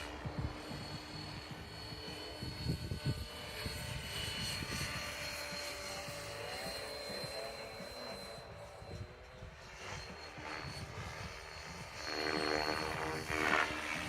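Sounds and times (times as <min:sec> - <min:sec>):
helicopter rotor noise: 0:00.0 - 0:14.0
model helicopter motor whine: 0:00.0 - 0:14.0.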